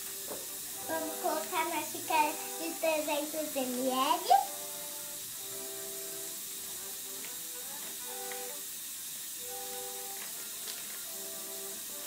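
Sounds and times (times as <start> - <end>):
soft background music: 0.0 - 12.0
steady hiss: 0.0 - 12.0.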